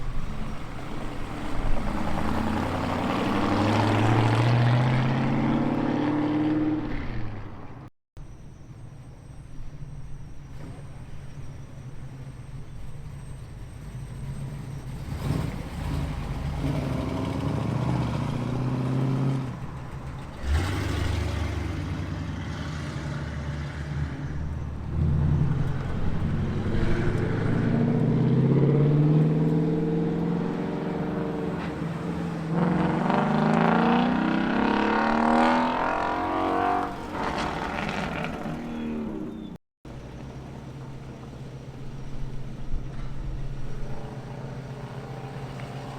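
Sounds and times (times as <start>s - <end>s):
car engines revving: 0.0s - 7.9s, 10.5s - 45.9s
car exhaust rumble: 0.0s - 45.9s.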